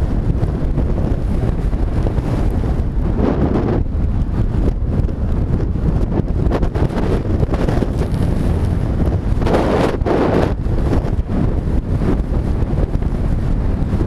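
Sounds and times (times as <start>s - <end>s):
loud wind on microphone: 0.0s - 14.0s.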